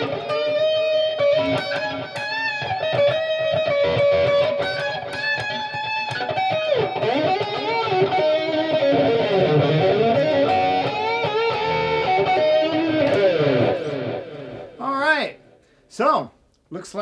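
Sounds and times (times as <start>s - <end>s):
electric guitar lead line: 0.0s - 15.6s.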